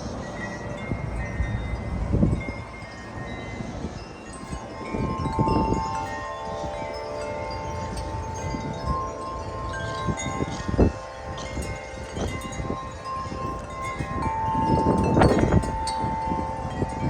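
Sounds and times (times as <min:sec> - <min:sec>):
tubular wind chime ringing: 0:00.0 - 0:17.0
wind rumbling on microphone: 0:00.0 - 0:17.0.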